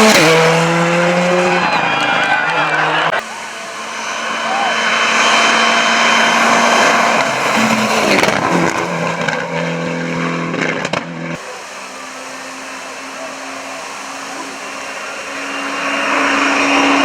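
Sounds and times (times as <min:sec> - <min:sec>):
rally car engine: 0:00.0 - 0:17.0.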